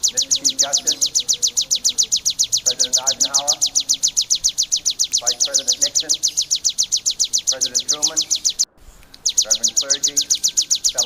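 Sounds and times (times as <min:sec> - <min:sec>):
bird singing rapid high notes: 0:00.0 - 0:11.0.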